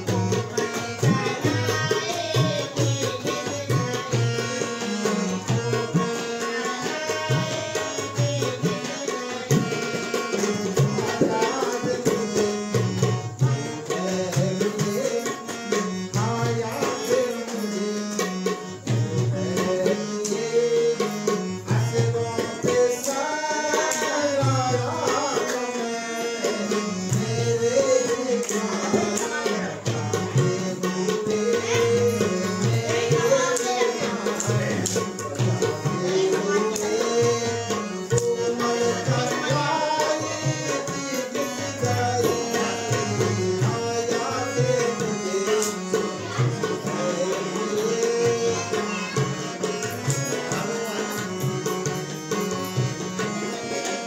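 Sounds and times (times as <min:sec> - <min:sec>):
harmonium: 0:00.0 - 0:54.0
person singing: 0:00.0 - 0:54.0
tabla: 0:00.0 - 0:54.0.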